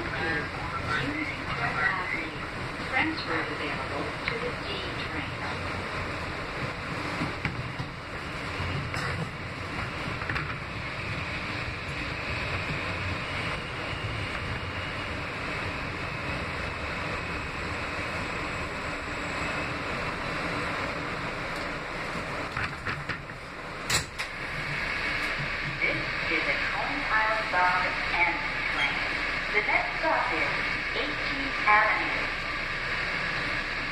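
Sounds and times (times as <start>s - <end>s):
subway car wheels rumbling: 0.0s - 33.9s.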